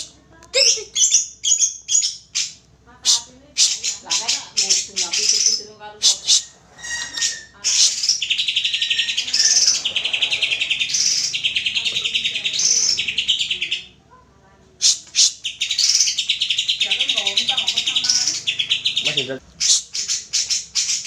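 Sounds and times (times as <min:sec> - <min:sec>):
bird singing trilled phrases: 0:00.6 - 0:14.0, 0:14.8 - 0:21.0.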